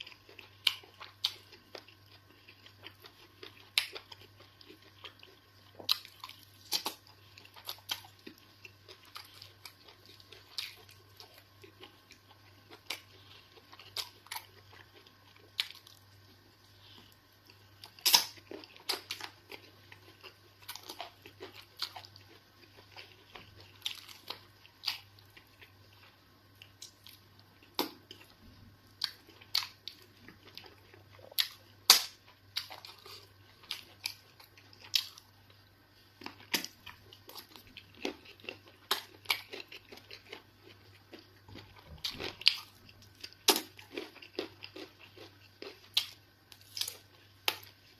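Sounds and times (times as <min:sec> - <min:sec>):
person chewing: 0:00.0 - 0:47.9.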